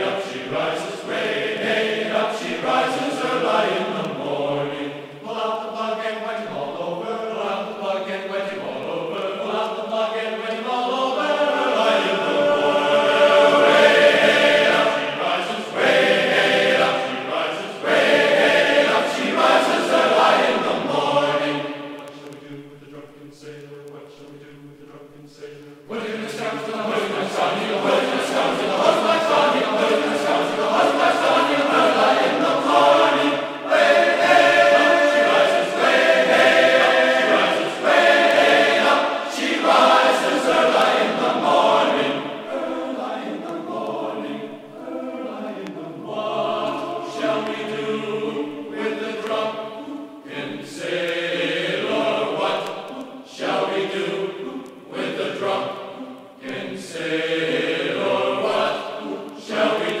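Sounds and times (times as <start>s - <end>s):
choir singing slow held chords: 0.0s - 60.0s.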